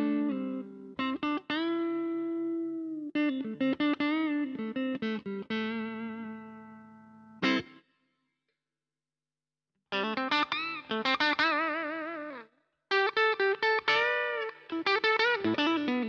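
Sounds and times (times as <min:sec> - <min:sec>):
electric guitar notes: 0:00.0 - 0:07.8, 0:10.0 - 0:16.0.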